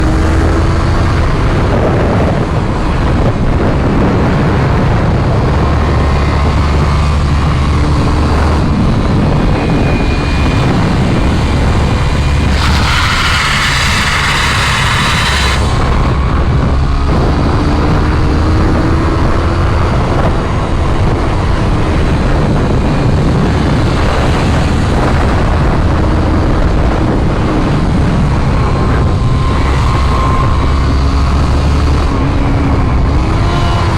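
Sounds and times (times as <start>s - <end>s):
motorcycle engine: 0.0s - 33.9s
wind roar: 0.0s - 33.9s
motorcycle sliding on asphalt: 1.1s - 33.9s.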